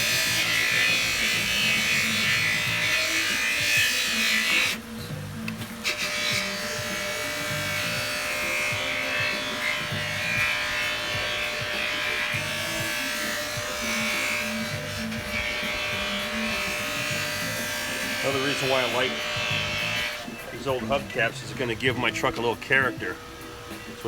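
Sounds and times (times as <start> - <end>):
background music with bass line: 0.0 - 24.0
bench buffer wheel hissing on metal: 0.0 - 24.0.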